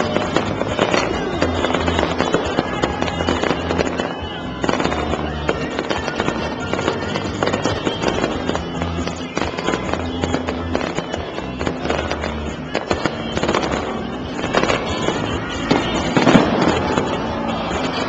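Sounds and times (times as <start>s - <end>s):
fireworks bangs and crackles: 0.0s - 18.0s
music with steady bass: 0.0s - 18.0s.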